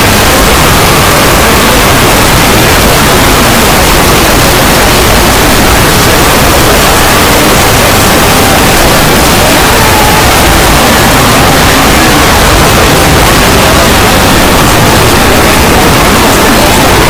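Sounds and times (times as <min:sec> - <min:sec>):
faint pitched sounds: 0:00.0 - 0:17.0
harsh distorted noise: 0:00.0 - 0:17.0.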